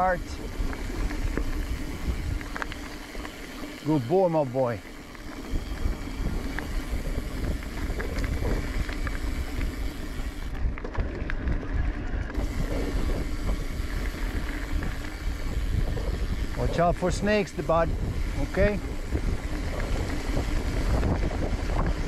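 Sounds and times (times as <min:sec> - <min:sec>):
bike clicks and rattles: 0:00.0 - 0:22.0
tyres crunching on dirt: 0:00.0 - 0:22.0
wind on microphone: 0:00.0 - 0:22.0.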